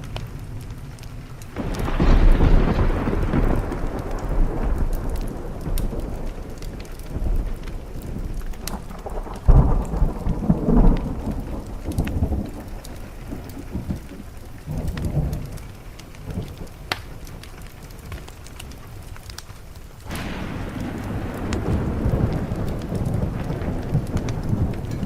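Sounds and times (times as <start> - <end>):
rain on a window: 0.0 - 25.0
thunder rumbling: 0.0 - 25.0
wood fire crackling: 0.0 - 25.0.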